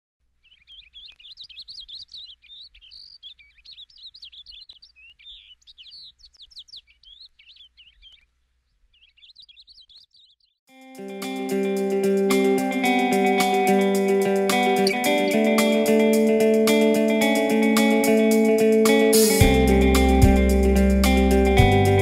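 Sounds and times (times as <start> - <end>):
songbirds chirping: 0.2 - 10.7, 11.6 - 22.0.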